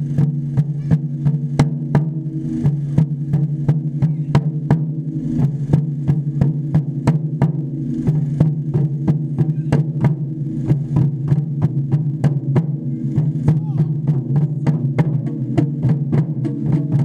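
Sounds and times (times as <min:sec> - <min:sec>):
drums played in steady beat: 0:00.0 - 0:17.0.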